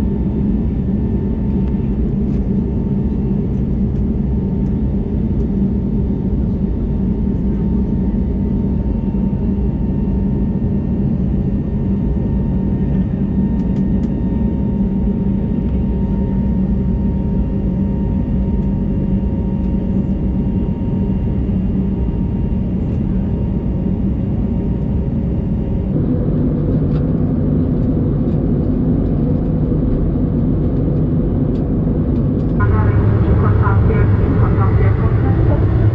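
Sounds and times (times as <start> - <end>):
engine and airflow roar: 0.0 - 35.9.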